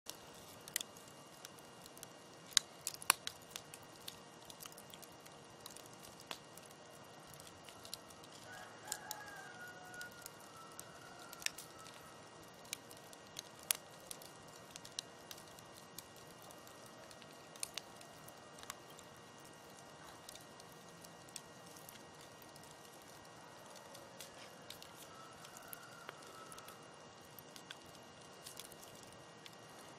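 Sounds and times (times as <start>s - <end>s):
faint steady hiss: 0.1s - 29.9s
wood fire crackling: 0.1s - 29.9s.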